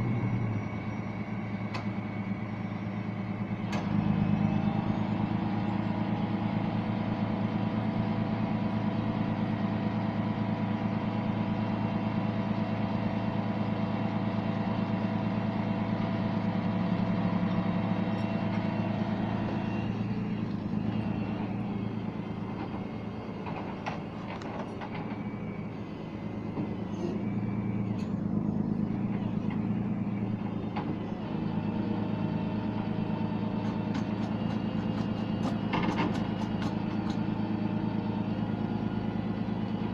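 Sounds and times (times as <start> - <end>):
large truck engine running: 0.0 - 39.9.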